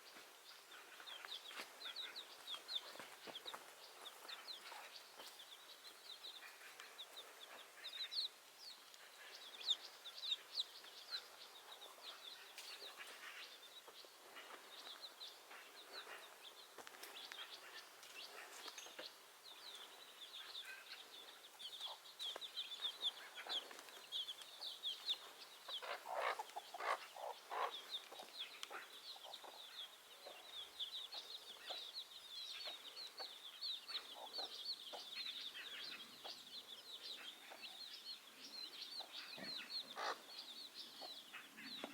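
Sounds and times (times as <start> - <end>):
chickens clucking: 0.1 - 41.9
chicks peeping: 0.1 - 41.9.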